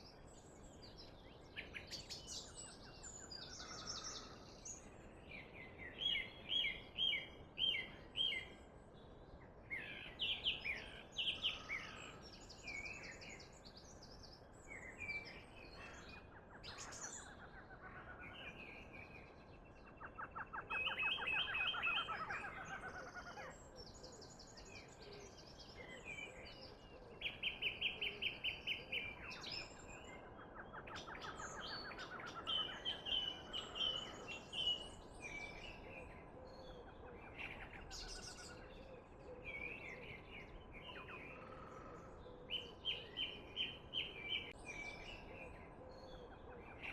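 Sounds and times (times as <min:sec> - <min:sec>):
songbirds singing: 0:00.0 - 0:46.9.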